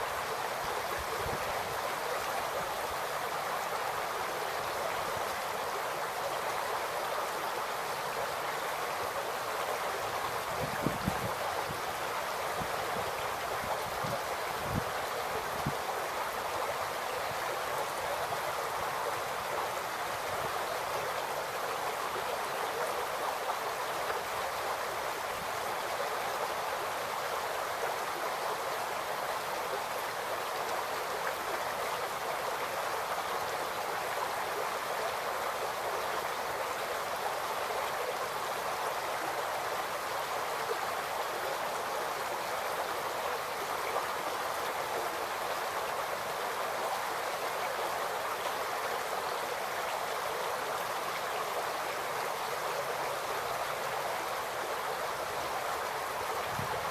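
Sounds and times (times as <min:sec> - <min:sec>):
creek babbling over rocks: 0:00.0 - 0:56.9.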